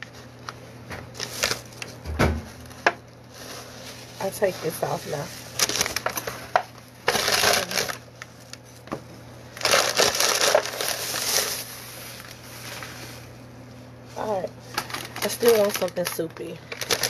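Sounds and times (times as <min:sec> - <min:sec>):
paper bag crinkling: 0:00.0 - 0:08.8, 0:09.5 - 0:13.4, 0:14.2 - 0:17.0.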